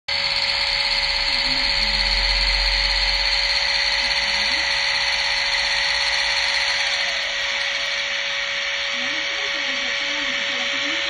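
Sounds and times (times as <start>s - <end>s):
model locomotive motor whine: 0.1s - 11.0s.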